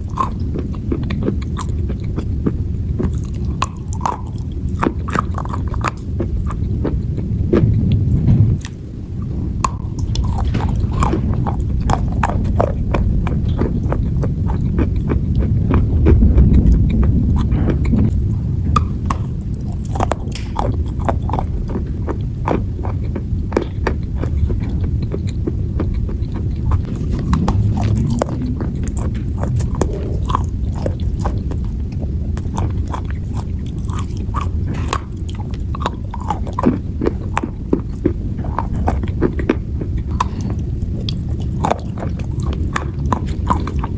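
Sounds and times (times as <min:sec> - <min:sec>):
person chewing crunchy clay: 0:00.0 - 0:43.9.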